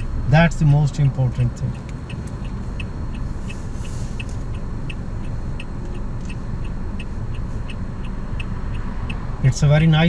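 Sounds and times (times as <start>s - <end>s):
car engine idling hum: 0.0s - 10.0s
turn signal ticking: 0.0s - 10.0s.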